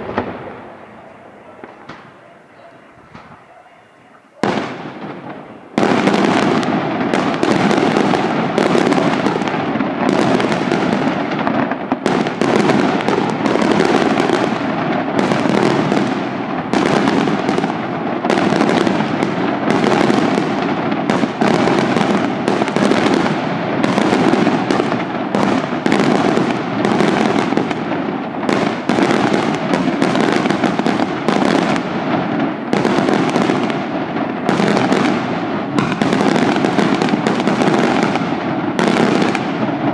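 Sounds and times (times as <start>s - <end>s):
fireworks bangs and crackling: 0.0s - 39.9s
sharp firework reports: 0.0s - 39.9s.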